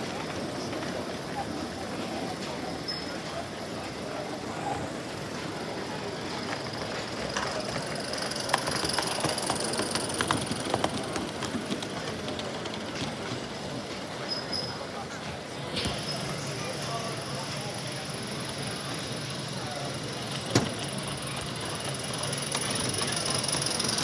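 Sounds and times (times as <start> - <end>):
hall chatter: 0.0 - 24.0
high hiss of passing train: 0.0 - 24.0
model train wheels clicking: 0.0 - 24.0.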